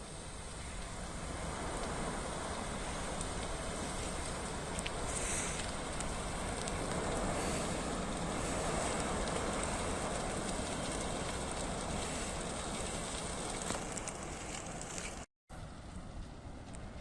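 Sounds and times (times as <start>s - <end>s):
fire crackling: 0.0s - 17.0s
fire rushing: 0.0s - 17.0s.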